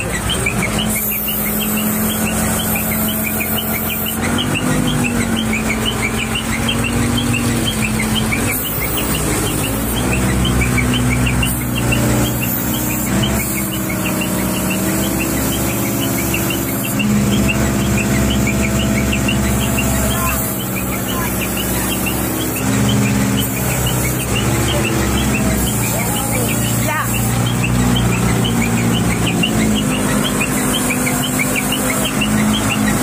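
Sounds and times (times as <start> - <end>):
crane diesel engine running: 0.0 - 33.0
quick high chirps: 0.0 - 33.0.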